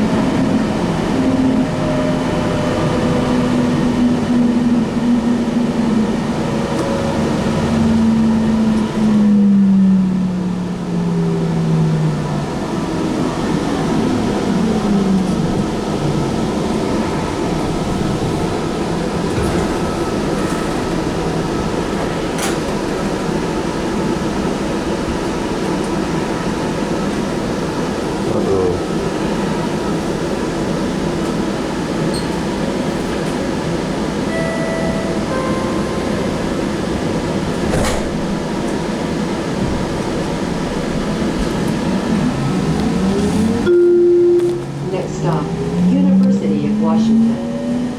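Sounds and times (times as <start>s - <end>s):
wheels rumbling on rails: 0.0s - 47.9s.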